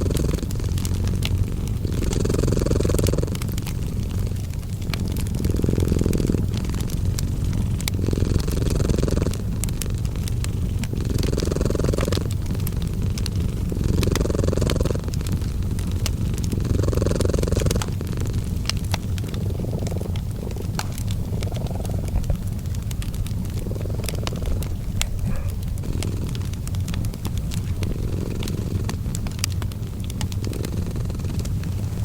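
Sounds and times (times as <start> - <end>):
cat purring: 0.0 - 32.0
wood fire crackling: 0.0 - 32.0.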